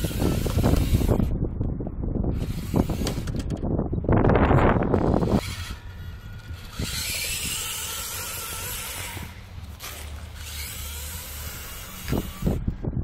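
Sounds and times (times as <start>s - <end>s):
small electric motor and gearbox: 0.0s - 1.4s, 2.3s - 13.0s.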